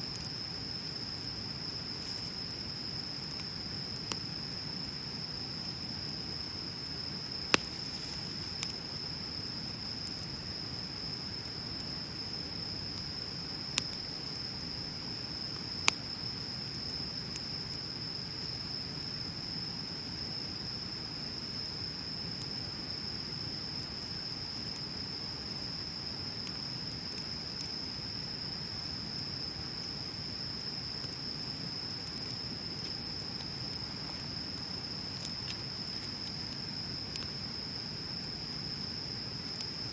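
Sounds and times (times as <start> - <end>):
bonfire crackling and popping: 0.0 - 18.6, 21.1 - 39.9.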